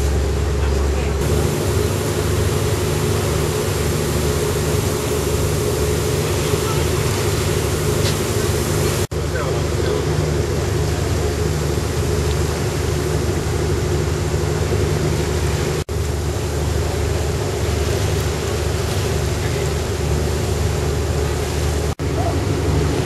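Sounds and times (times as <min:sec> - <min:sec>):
boat engine running: 0:00.0 - 0:23.0
water rushing: 0:00.0 - 0:23.0
wind: 0:00.0 - 0:23.0.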